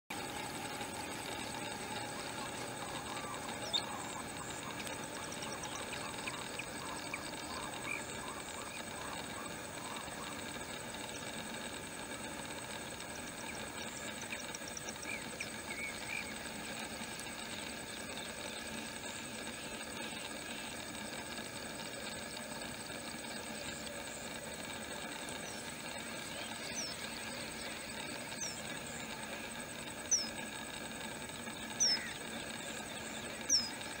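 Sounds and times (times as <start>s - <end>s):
steady outdoor hum: 0.0s - 34.0s.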